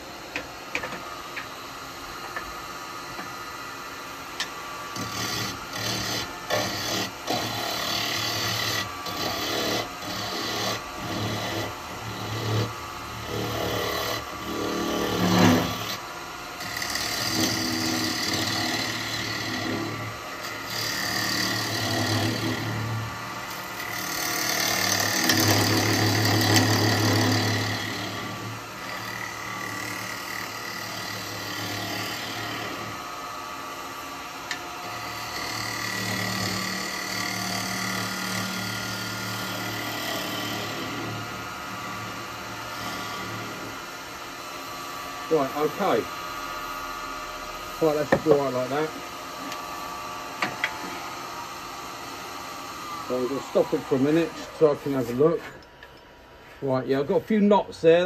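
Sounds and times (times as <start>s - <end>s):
wood lathe gouge cutting: 0.0s - 55.7s.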